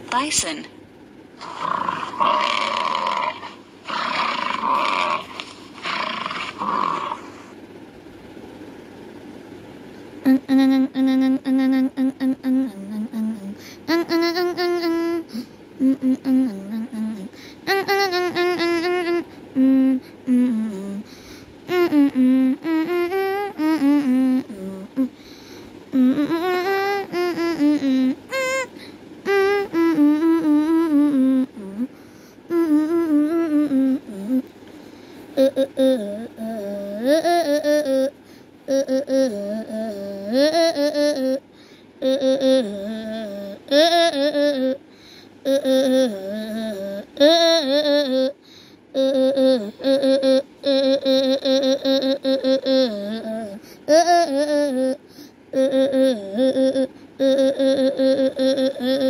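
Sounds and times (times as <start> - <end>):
person humming a tune: 10.2 - 25.3, 25.9 - 34.5, 35.3 - 59.0.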